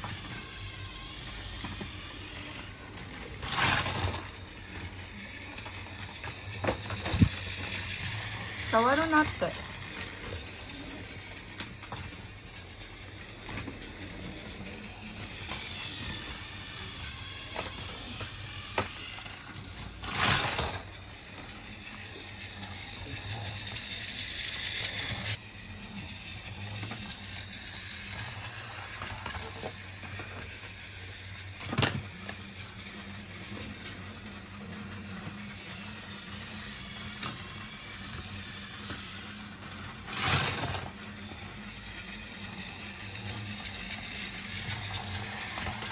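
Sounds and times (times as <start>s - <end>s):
toy train motor whirring: 0.0s - 45.9s.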